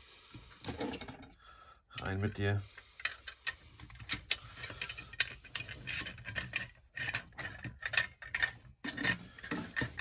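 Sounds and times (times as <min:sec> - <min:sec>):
plastic parts clicking and scraping: 0:02.0 - 0:10.0.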